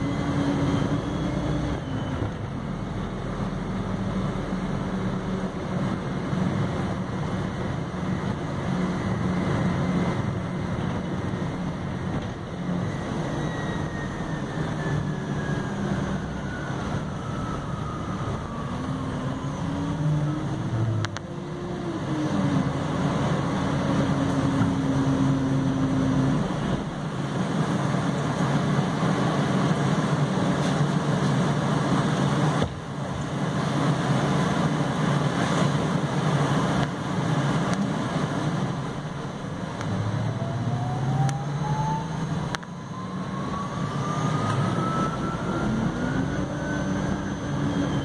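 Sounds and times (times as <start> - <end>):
electric bus drive whine: 0.0 - 48.0
road and cabin rumble: 0.0 - 48.0.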